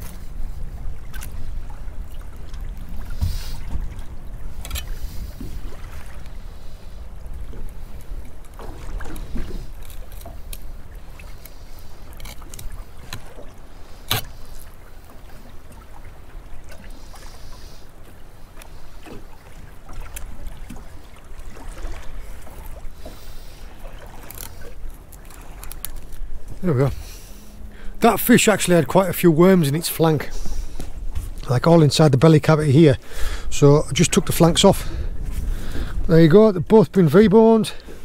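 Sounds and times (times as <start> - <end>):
water around a boat: 0.0 - 38.0
wind: 0.0 - 38.0.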